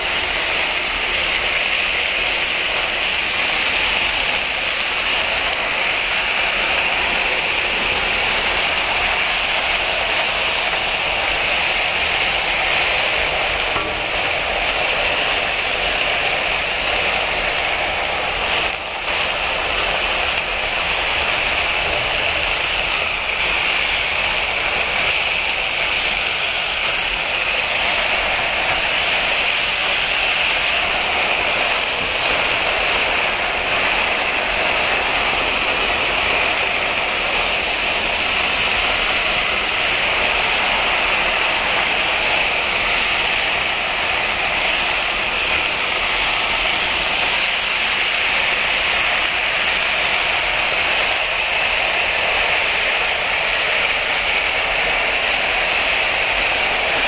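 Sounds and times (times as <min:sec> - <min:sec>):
vegetables sizzling in oil: 0:00.0 - 0:54.4.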